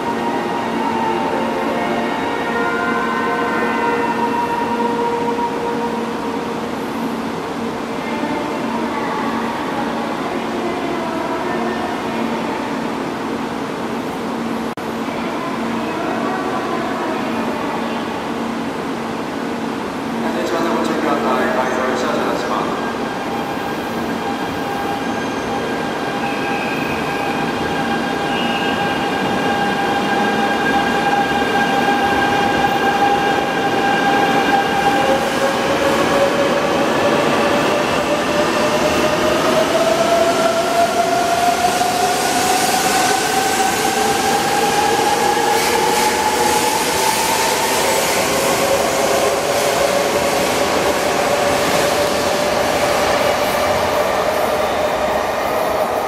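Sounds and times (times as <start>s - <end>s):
rushing hiss of passing train: 0.0s - 56.0s.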